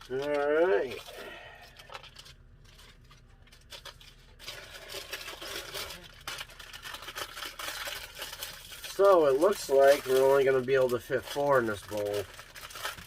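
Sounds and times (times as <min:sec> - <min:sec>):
noodle packets crinkling: 0:00.0 - 0:13.0.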